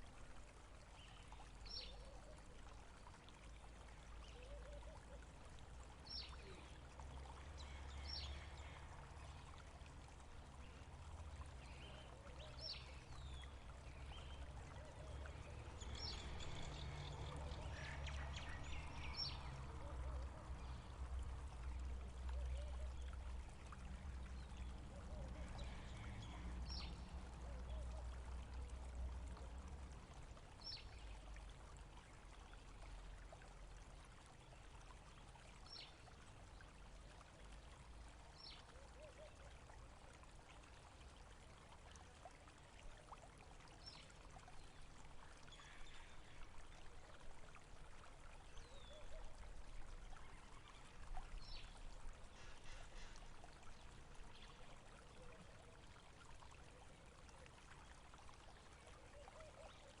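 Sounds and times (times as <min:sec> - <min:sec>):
faint flowing water: 0:00.0 - 1:00.0.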